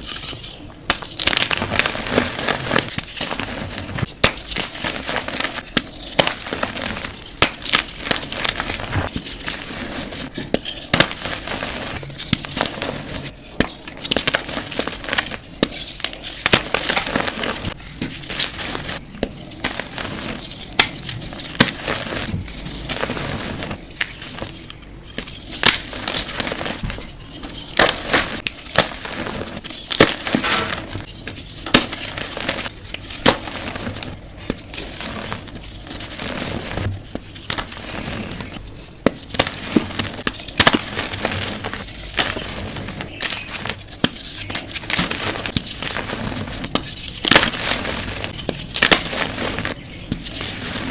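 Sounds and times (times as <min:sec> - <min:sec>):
chalk crunching and snapping: 0:00.0 - 0:50.9.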